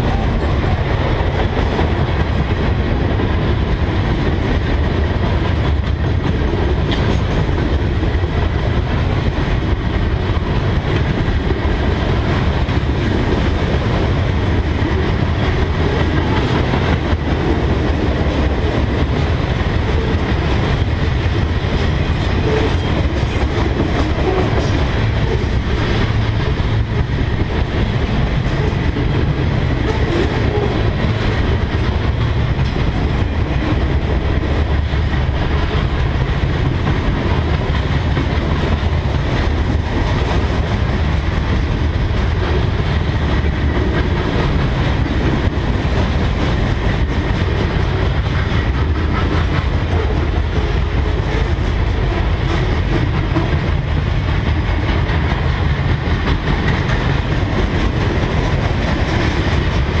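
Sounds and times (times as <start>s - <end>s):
freight train cars rolling past: 0.0s - 60.0s.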